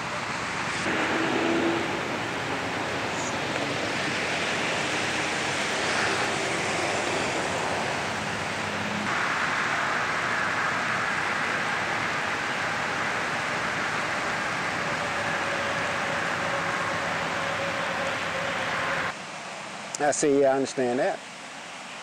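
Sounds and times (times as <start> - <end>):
rain falling: 0.1 - 19.1.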